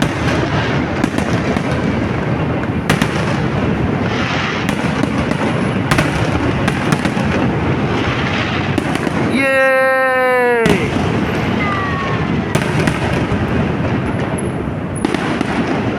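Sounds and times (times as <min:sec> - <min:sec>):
fireworks bursts rumbling: 0:00.0 - 0:15.9
sharp firework cracks: 0:00.0 - 0:15.9.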